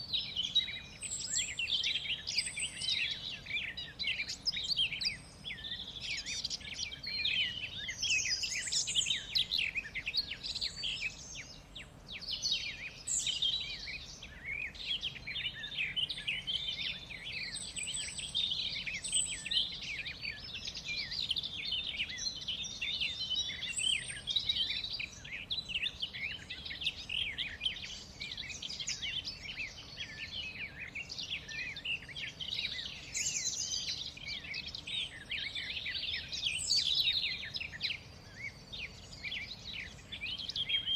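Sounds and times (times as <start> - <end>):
birds chirping in chorus: 0.0 - 40.9.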